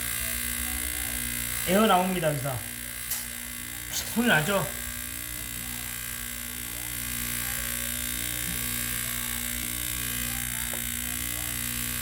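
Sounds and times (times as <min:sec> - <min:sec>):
vacuum pump motor humming: 0:00.0 - 0:12.0.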